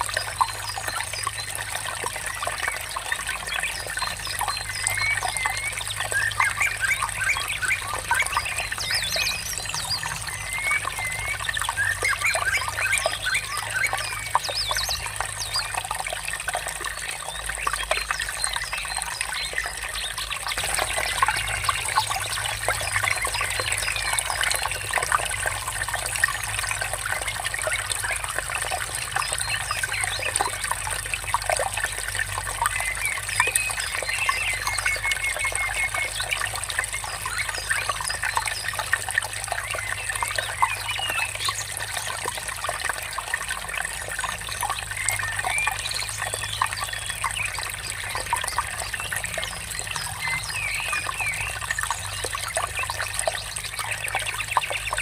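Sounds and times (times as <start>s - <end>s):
small birds chirping: 0.0s - 55.0s
water trickling: 0.0s - 55.0s.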